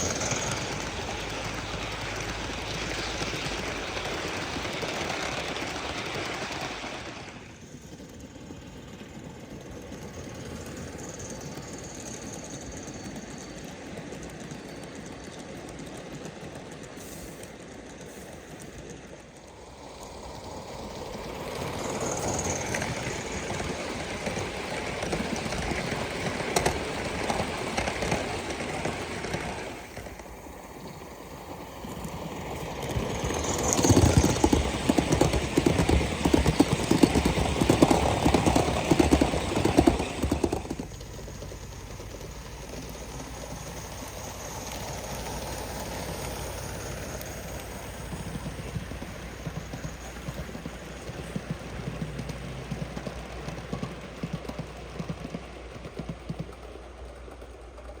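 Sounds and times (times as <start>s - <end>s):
steam locomotive exhaust chuffs: 0.0s - 58.0s
wheel clatter on track: 0.0s - 58.0s.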